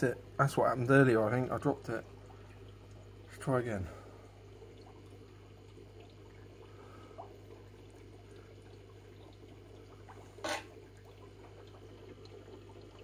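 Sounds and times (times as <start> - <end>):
low filter hum: 0.0 - 13.0
water trickling into tank: 0.0 - 13.0.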